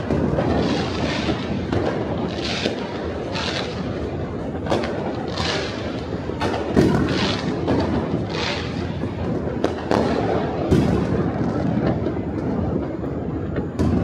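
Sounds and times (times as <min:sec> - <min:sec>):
crackling hisses: 0:00.0 - 0:14.0
distant fireworks rumble: 0:00.0 - 0:14.0
sharp firework bangs: 0:00.0 - 0:14.0.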